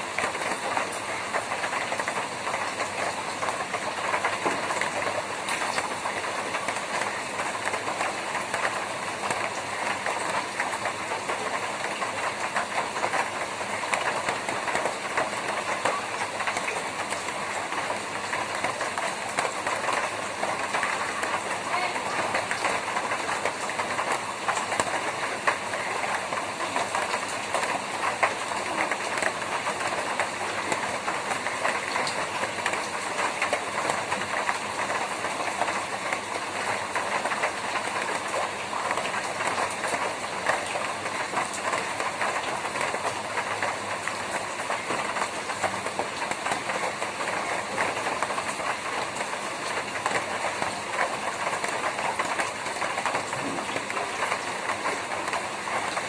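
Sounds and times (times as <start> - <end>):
rain drumming on a tin roof: 0.0 - 56.0.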